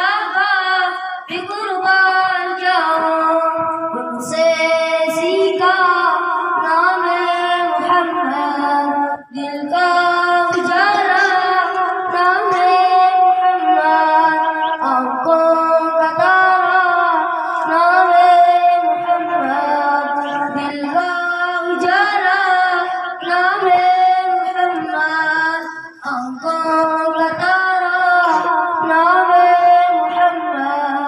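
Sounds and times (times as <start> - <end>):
boy singing solo: 0.0 - 31.0.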